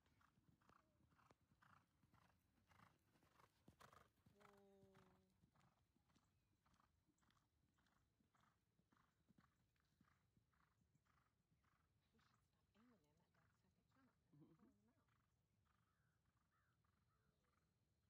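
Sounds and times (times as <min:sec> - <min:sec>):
horse hoofbeats on sand: 0:00.0 - 0:14.8.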